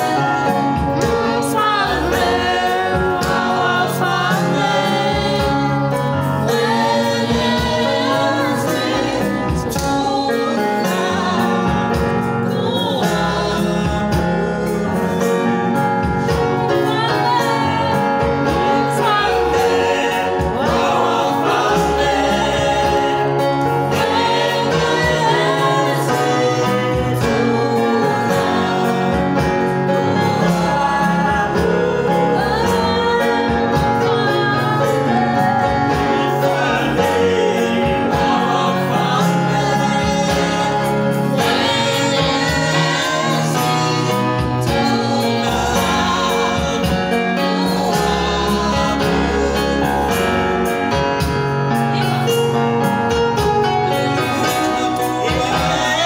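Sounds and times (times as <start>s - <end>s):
gospel music with singing: 0.0s - 56.0s.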